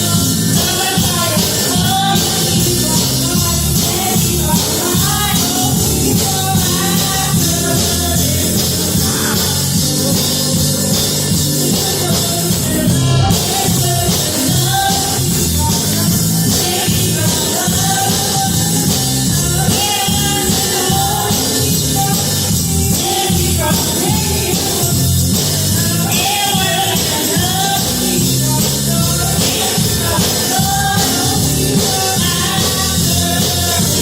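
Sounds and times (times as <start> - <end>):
band with drums and bass: 0.0 - 34.0
voices singing: 0.0 - 34.0.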